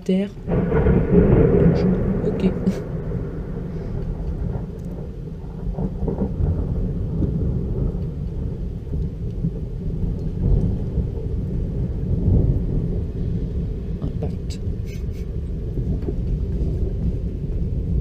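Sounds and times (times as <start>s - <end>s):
rolling thunder: 0.2s - 18.0s.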